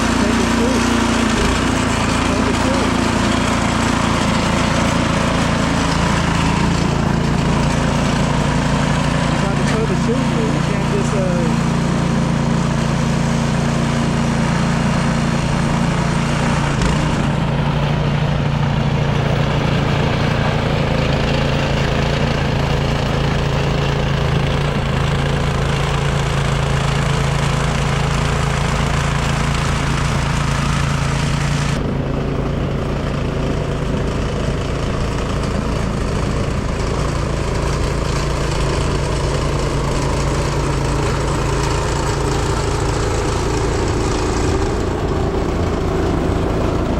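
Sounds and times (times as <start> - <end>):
snowblower engine running: 0.0 - 46.9.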